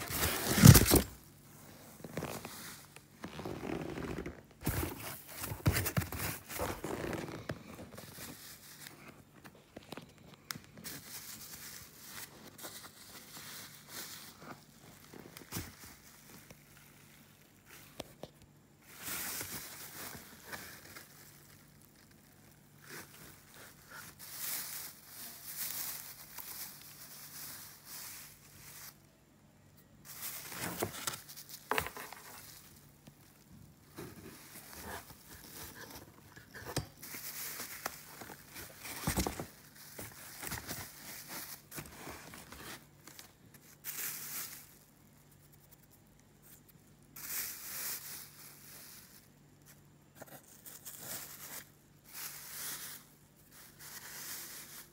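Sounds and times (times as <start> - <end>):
plastic wrapping crinkling: 0.0 - 1.3, 1.9 - 29.2, 30.0 - 54.9.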